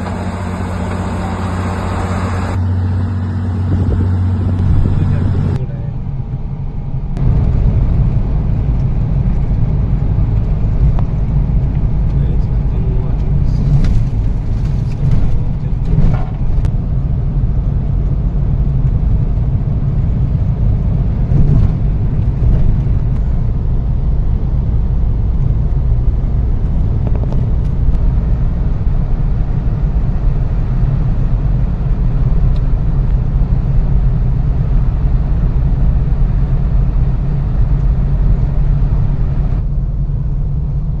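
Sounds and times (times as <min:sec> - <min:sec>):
road vehicle rumbling: 0:00.0 - 0:41.0.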